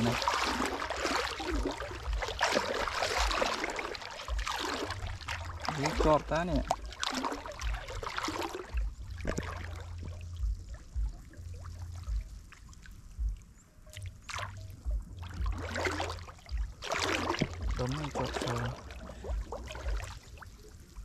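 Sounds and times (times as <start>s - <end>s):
low rumble: 0.0s - 21.0s
shallow water splashing: 0.0s - 21.0s.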